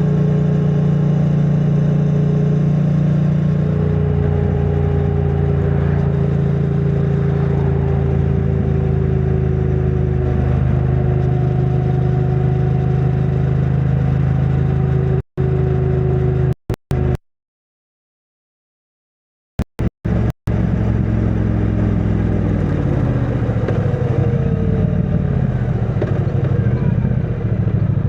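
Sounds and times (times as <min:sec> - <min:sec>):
motorcycle engine running: 0:00.0 - 0:17.2, 0:19.6 - 0:28.0.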